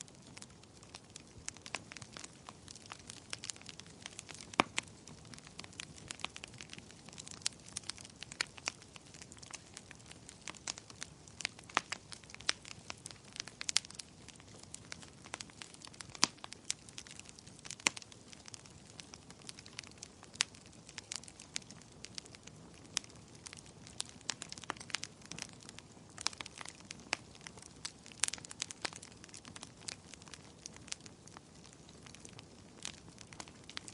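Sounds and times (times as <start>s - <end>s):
fireplace fire crackling: 0.0s - 33.9s
soft steady hiss: 0.0s - 33.9s.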